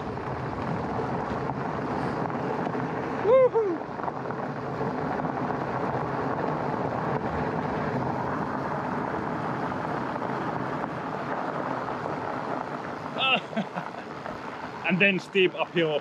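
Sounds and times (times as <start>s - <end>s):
wind over microphone: 0.0s - 15.2s
bike tyres rolling over trail: 0.0s - 16.0s.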